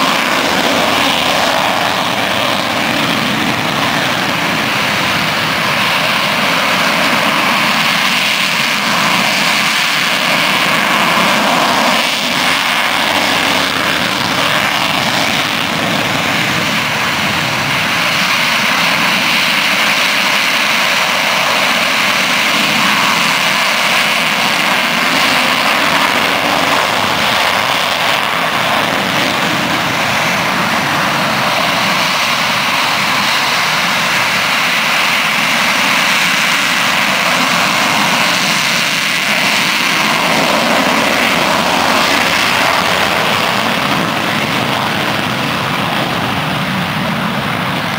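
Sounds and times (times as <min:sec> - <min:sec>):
jet engines running loudly: 0:00.0 - 0:47.9.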